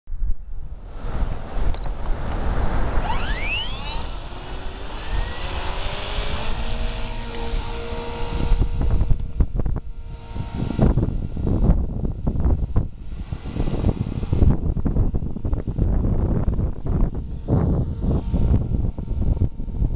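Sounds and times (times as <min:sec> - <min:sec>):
wind rumbling on microphone: 0:00.1 - 0:19.9
rc helicopter motor whine: 0:01.0 - 0:19.9.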